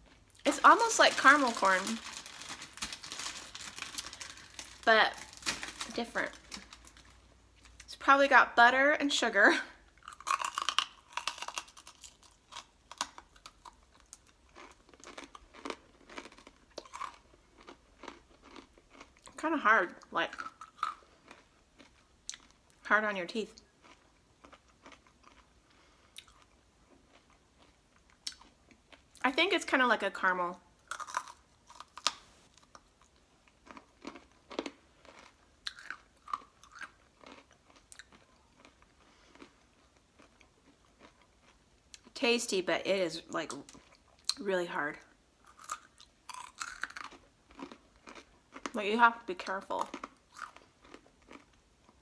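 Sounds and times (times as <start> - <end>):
person chewing crunchy snack: 0.0 - 7.9, 10.0 - 19.4, 20.3 - 22.7, 23.7 - 29.1, 30.9 - 42.1, 45.4 - 48.8, 49.8 - 52.0.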